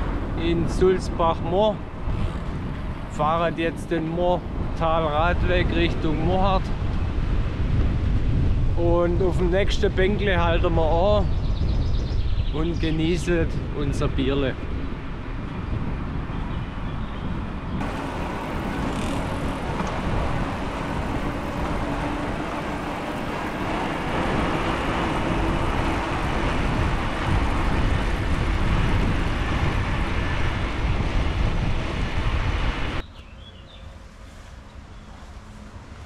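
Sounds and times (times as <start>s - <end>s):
wind and road noise cycling: 0.0s - 36.0s.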